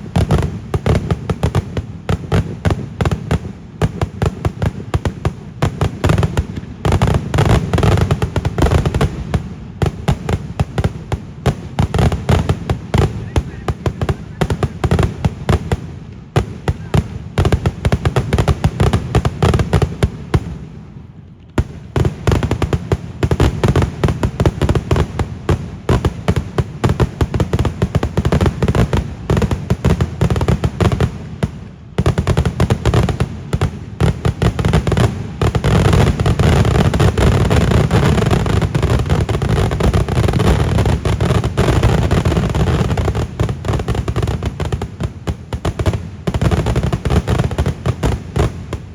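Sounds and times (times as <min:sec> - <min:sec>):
fireworks bangs and cracks: 0:00.0 - 0:48.9.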